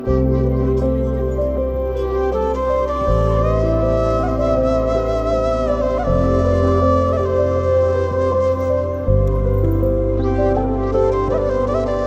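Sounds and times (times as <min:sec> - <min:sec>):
slow background music: 0:00.0 - 0:12.0.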